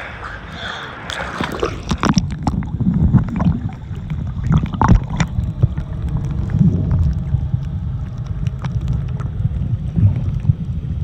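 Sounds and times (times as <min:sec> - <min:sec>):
muffled underwater rumble: 0:00.0 - 0:11.0
bubbly gurgles: 0:01.0 - 0:11.0.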